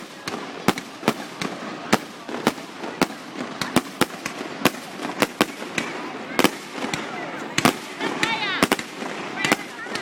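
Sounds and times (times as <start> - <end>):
continuous background noise: 0.0 - 10.0
fireworks bangs: 0.0 - 10.0.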